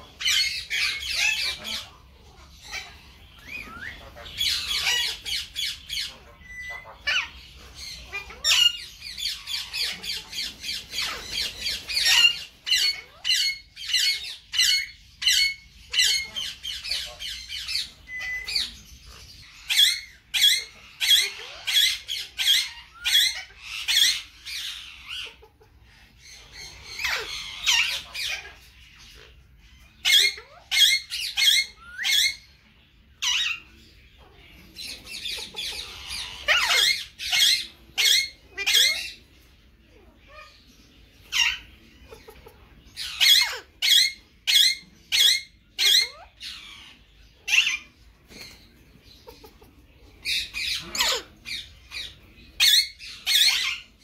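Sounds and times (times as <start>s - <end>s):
parakeets squawking: 0.0s - 54.0s.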